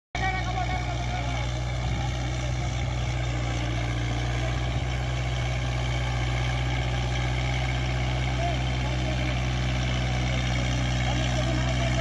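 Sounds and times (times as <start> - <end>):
tractor diesel engine running: 0.2 - 12.0.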